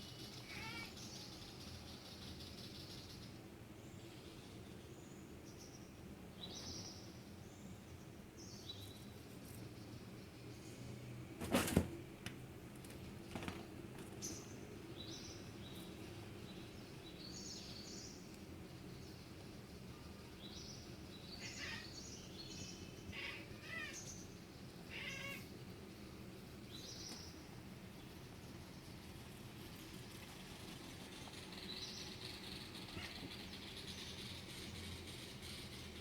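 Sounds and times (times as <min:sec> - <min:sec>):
small birds chirping: 0:00.0 - 0:11.0, 0:14.1 - 0:36.0.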